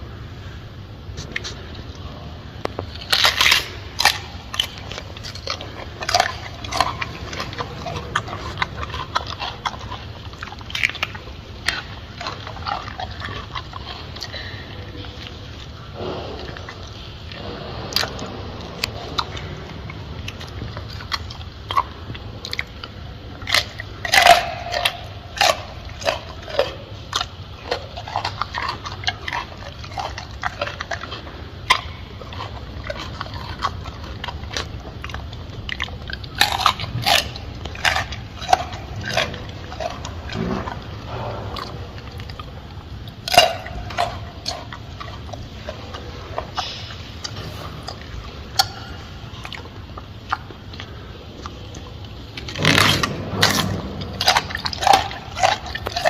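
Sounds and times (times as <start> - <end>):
gorilla chewing banana: 0.0 - 56.0
low steady hum: 0.0 - 56.0.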